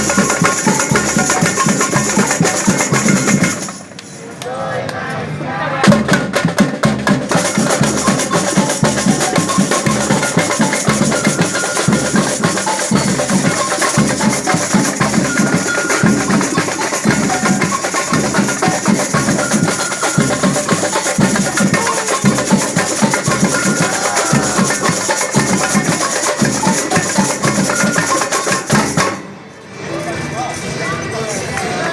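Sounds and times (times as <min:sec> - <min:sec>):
band playing percussive music: 0:00.0 - 0:04.2, 0:05.8 - 0:31.9.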